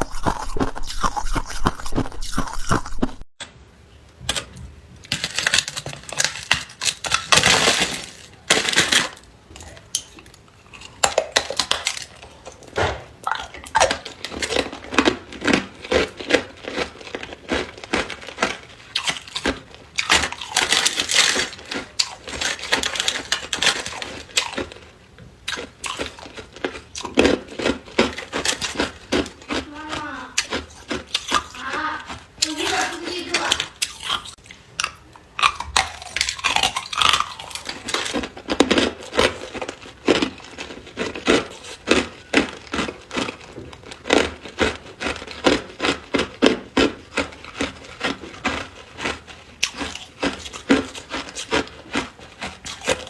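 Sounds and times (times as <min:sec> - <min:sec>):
ice being chewed: 0:00.0 - 0:03.2, 0:05.0 - 0:53.0.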